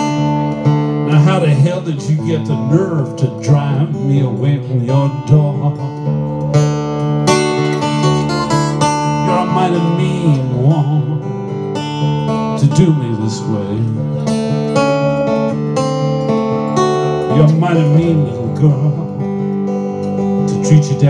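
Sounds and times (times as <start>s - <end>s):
fingerpicked blues acoustic guitar: 0.0s - 21.0s
strummed guitar chords: 0.0s - 21.0s.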